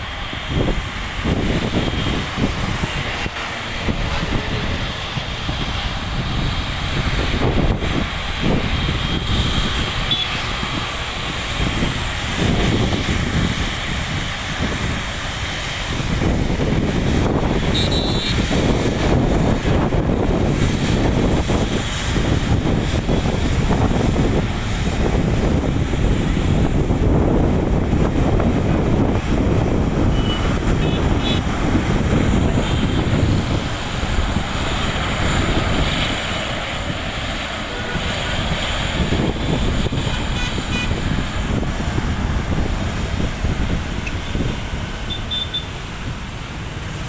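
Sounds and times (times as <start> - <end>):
jet engines rumbling: 0.0 - 47.0
wind buffeting microphone: 0.0 - 47.0.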